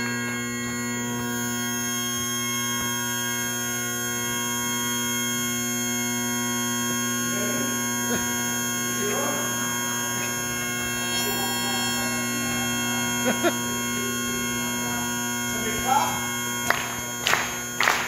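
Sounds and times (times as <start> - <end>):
bagpipe drones: 0.0 - 18.0.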